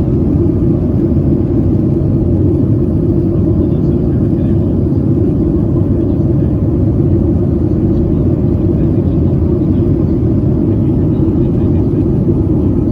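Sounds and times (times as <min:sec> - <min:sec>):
airplane cabin engine rumble: 0:00.0 - 0:12.9.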